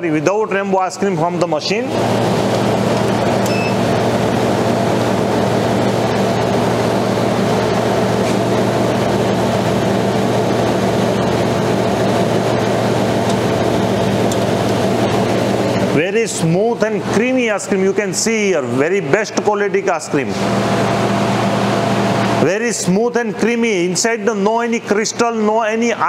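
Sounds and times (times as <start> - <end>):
ice cream machine humming: 0.0 - 26.0.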